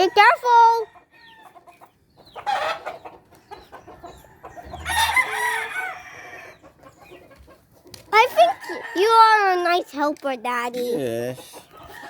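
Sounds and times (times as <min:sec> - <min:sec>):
chickens squawking: 0:00.0 - 0:09.9, 0:11.1 - 0:12.0.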